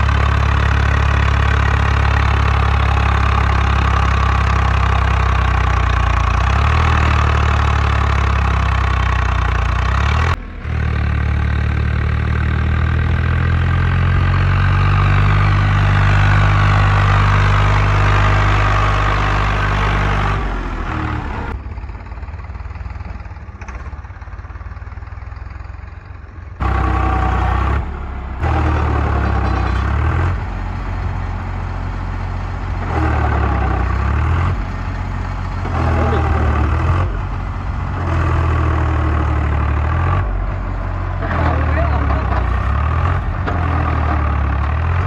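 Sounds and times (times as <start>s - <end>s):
tractor diesel engine running hard: 0.0s - 45.0s.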